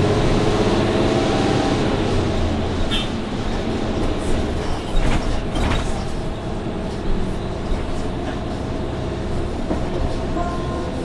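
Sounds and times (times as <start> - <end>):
bus engine low drone: 0.0 - 11.0.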